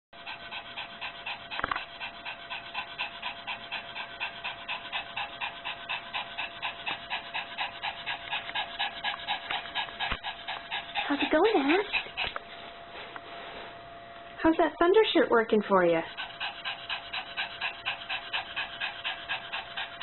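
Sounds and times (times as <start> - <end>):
dog panting rapidly: 0.2 - 13.6, 14.5 - 20.0.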